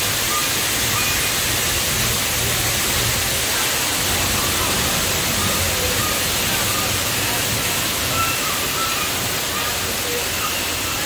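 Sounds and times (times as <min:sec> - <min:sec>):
rushing falling water: 0:00.0 - 0:11.0.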